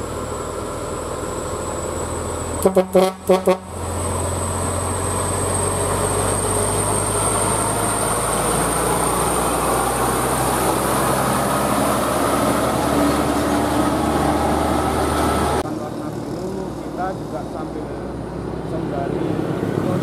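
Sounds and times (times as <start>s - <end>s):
truck diesel engine under load: 0.0s - 20.0s
tyre and road noise: 0.0s - 20.0s.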